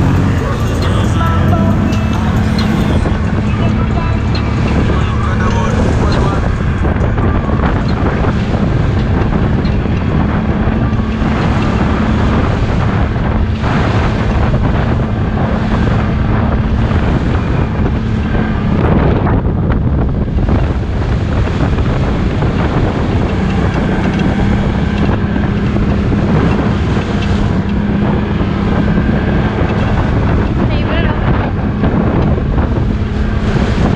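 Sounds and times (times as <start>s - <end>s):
engine running: 0.0s - 33.9s
wind buffeting microphone: 0.0s - 33.9s.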